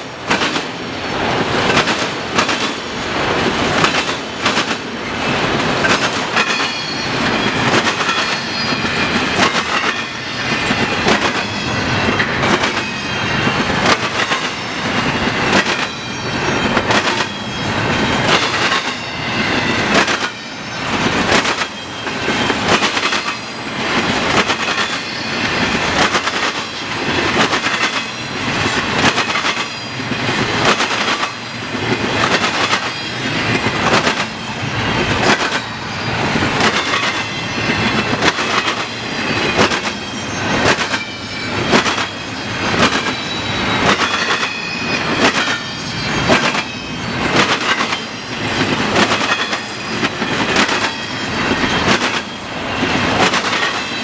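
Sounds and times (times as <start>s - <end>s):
train wheels banging over crossing: 0.0s - 54.0s
high ringing from wheels: 5.1s - 54.0s.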